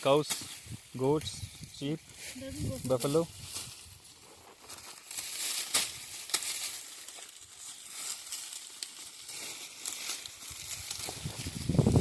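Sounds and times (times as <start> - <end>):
leaves rustling and crackling: 0.0 - 12.0.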